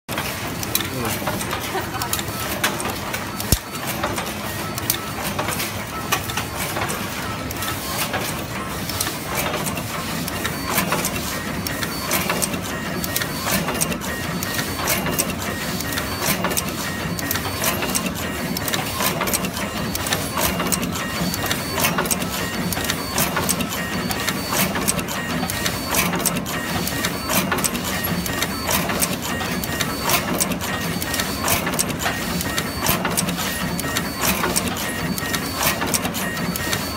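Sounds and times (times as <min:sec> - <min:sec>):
mechanical clicking and clatter: 0:00.1 - 0:36.9.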